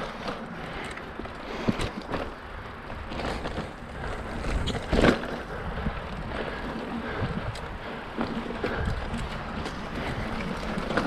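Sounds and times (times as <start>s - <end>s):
bike clicks and rattles: 0.0s - 11.0s
bike tyres rumbling on dirt: 0.0s - 11.0s.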